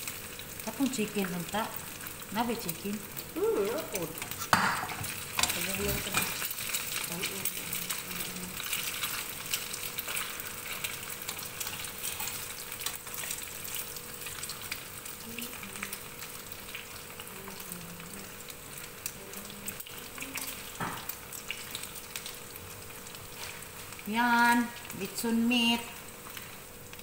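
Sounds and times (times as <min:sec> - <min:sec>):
meat sizzling and popping in oil: 0:00.0 - 0:27.0.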